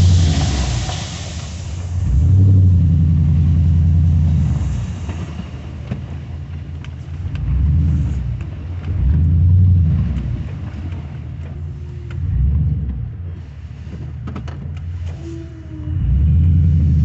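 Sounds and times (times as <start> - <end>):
truck engine revving under load: 0.0 - 17.0.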